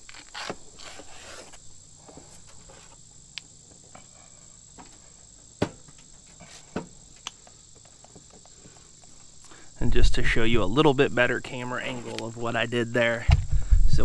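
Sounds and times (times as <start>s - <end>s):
high insect chirring: 0.0s - 13.8s.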